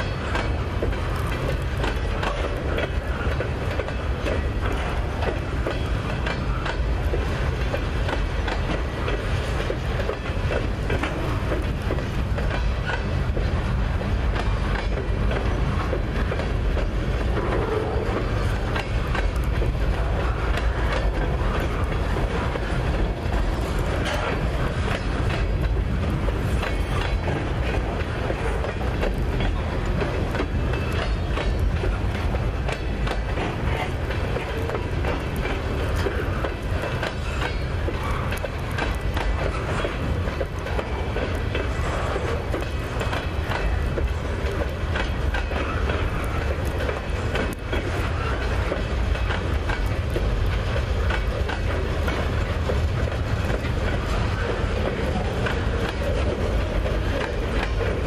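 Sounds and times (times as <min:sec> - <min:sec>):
rumble of steel wheels on rail: 0:00.0 - 0:58.0
wheels clicking over rail joints: 0:00.0 - 0:58.0.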